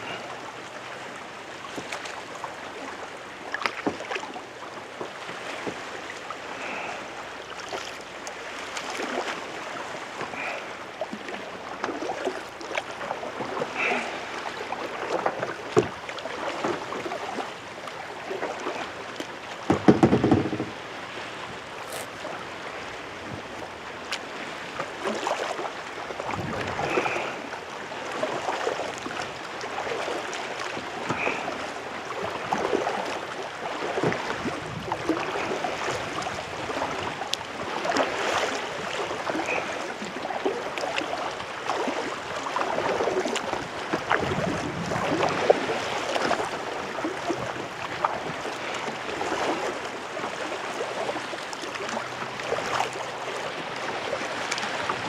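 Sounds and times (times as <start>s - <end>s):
kayak paddle strokes in water: 0.0s - 55.0s.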